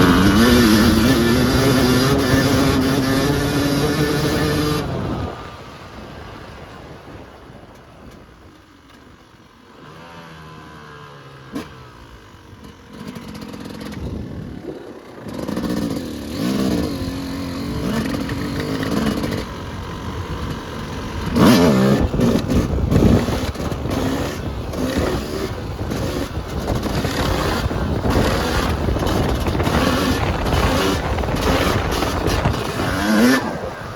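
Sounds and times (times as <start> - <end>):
dirt bike engine revving: 0.0 - 5.5, 9.5 - 33.9.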